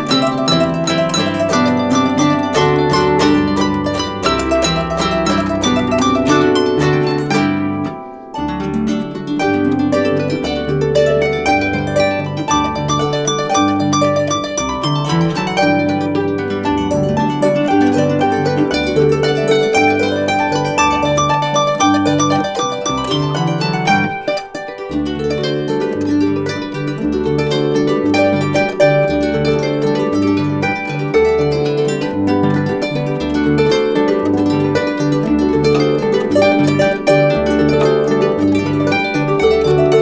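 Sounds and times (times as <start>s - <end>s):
harp duet: 0.0s - 40.0s.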